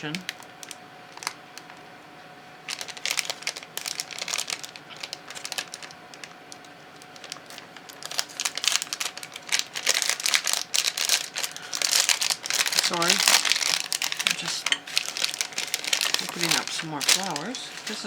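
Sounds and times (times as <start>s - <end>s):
packaging crinkling: 0.0s - 1.9s, 2.6s - 18.0s.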